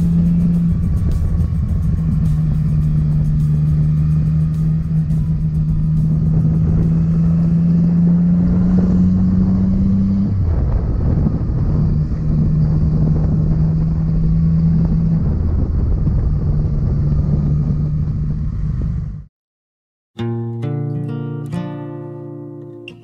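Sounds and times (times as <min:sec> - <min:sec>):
motorcycle engine running: 0:00.0 - 0:19.3
wind and road noise: 0:00.0 - 0:19.3.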